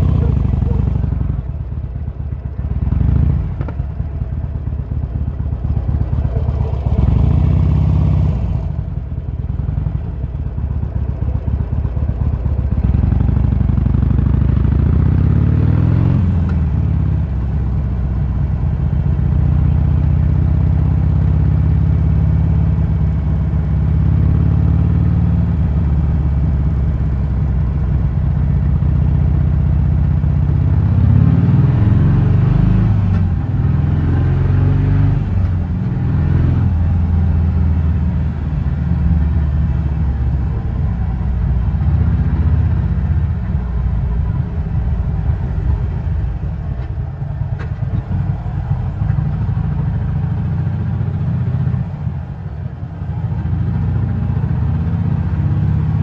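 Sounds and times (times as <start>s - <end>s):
motorcycle engine revving: 0.0s - 26.8s, 28.4s - 56.0s.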